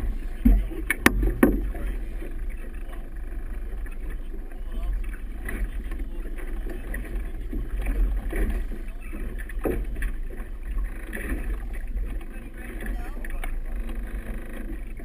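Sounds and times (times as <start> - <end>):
water splashing against hull: 0.0 - 15.0
wind rumbling on microphone: 0.0 - 15.0.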